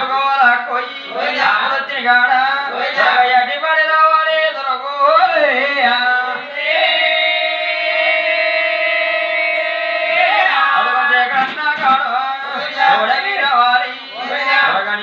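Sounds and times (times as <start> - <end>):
voices singing folk song: 0.0 - 15.0.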